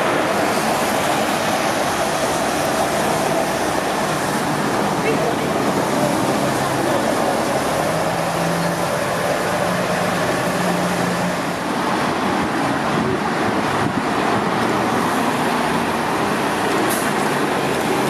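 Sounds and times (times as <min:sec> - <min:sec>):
bus engine hum: 0:00.0 - 0:18.0
traffic on wet road: 0:00.0 - 0:18.0.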